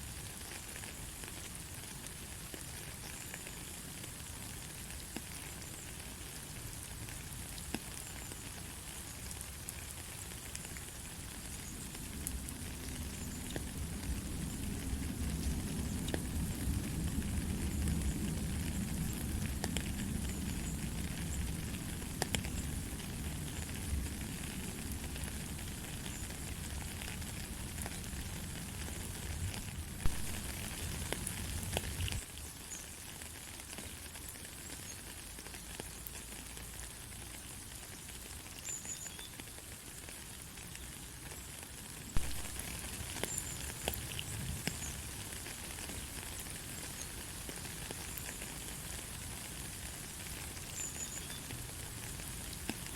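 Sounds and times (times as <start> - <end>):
light rain hissing: 0.0 - 52.9.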